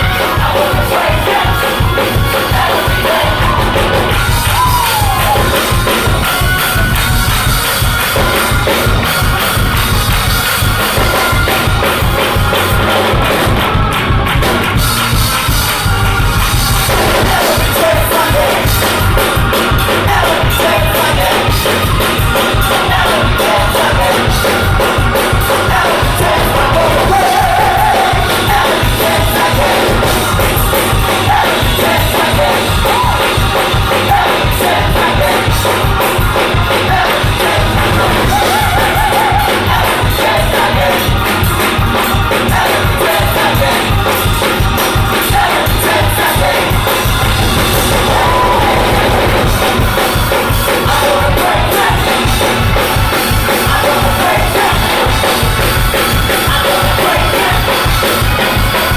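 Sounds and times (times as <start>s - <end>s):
choir singing with band: 0.0s - 58.9s
drums steady beat: 0.0s - 58.9s.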